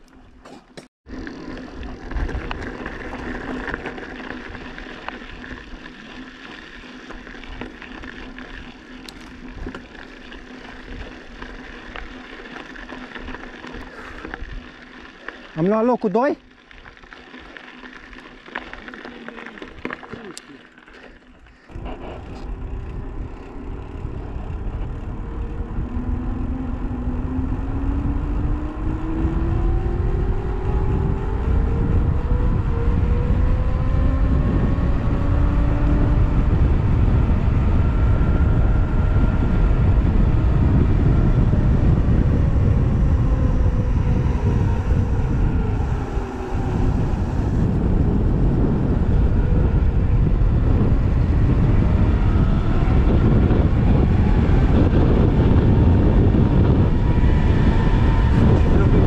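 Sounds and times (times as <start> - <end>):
vehicle engine pulling: 0.4 - 59.0
wind and road rush: 1.1 - 20.0, 21.7 - 59.0.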